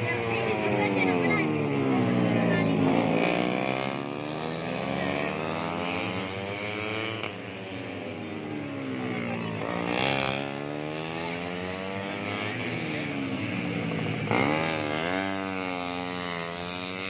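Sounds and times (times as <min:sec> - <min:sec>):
motorcycles at high revs: 0:00.0 - 0:17.0.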